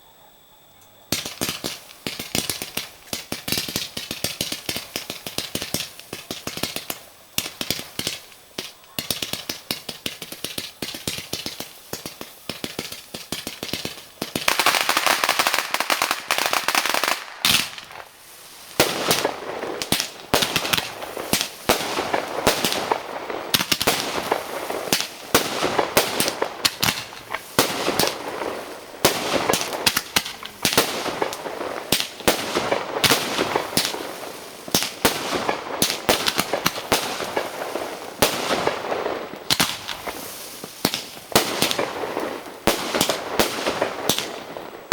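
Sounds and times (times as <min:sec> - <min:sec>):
fireworks popping and crackling: 0:01.0 - 0:44.9
sharp firework bangs: 0:01.1 - 0:44.9.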